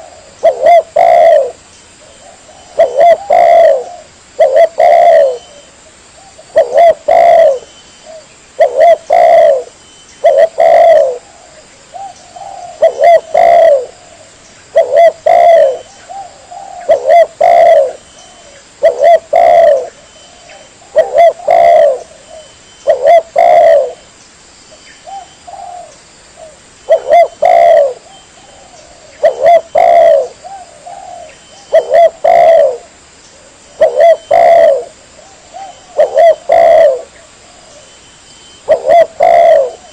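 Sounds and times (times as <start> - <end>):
dove cooing: 0.0 - 24.1, 25.0 - 39.9.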